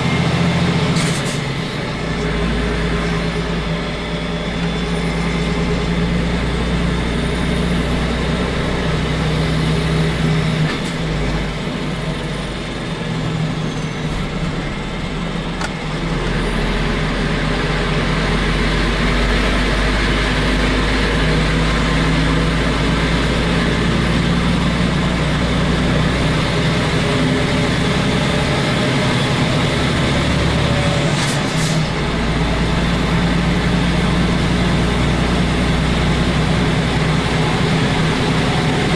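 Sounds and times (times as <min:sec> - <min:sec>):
truck diesel engine rumbling: 0:00.0 - 0:38.9.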